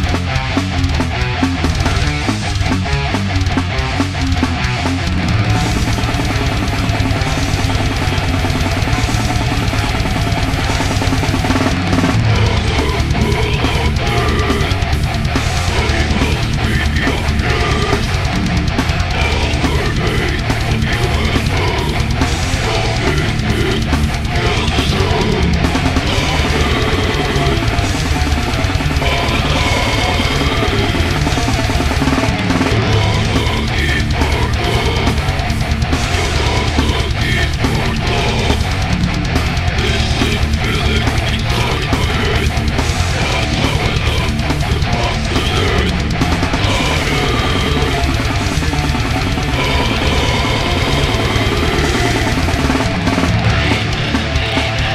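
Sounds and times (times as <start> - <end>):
distorted guitars and bass: 0.0 - 54.9
fast drumming: 0.0 - 54.9.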